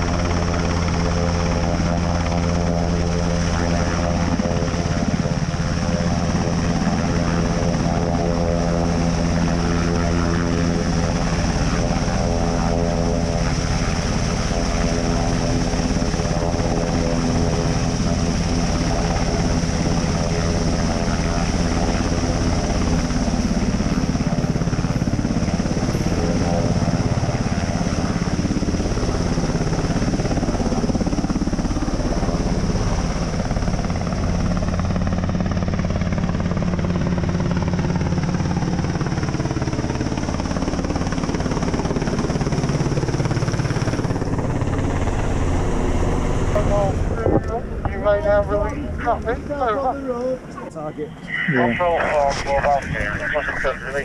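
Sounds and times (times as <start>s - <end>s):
helicopter rotors droning: 0.0s - 54.0s
high turbine whine: 0.0s - 54.0s.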